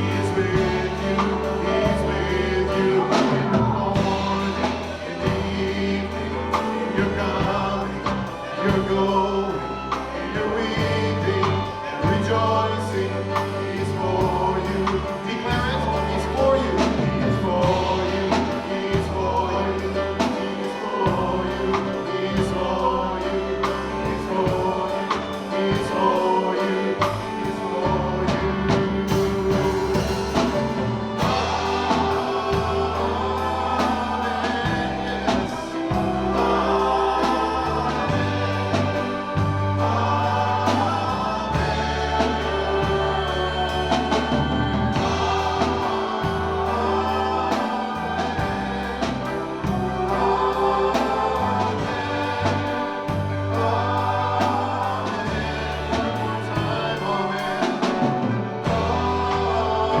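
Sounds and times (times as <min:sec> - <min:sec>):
band playing: 0:00.0 - 1:00.0
congregation singing: 0:00.0 - 1:00.0.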